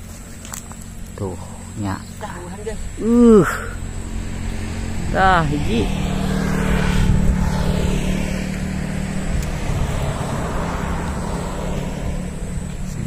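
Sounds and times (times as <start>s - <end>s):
passing vehicle engine drone: 0.0s - 13.0s.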